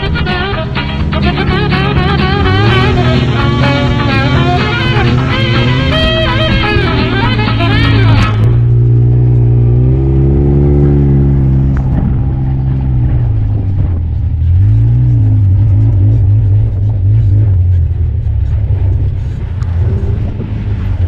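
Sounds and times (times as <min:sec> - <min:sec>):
vehicle engine running while driving: 0:00.0 - 0:21.0.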